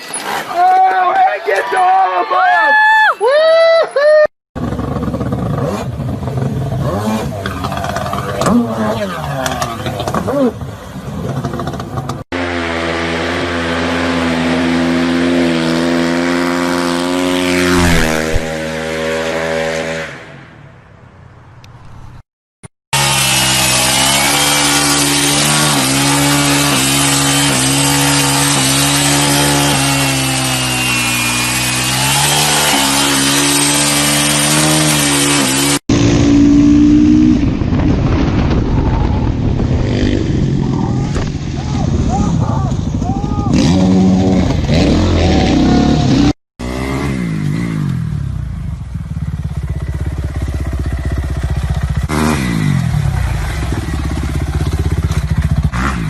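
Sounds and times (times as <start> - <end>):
motorcycle engines revving: 4.6 - 20.6, 23.0 - 37.7, 39.8 - 56.0.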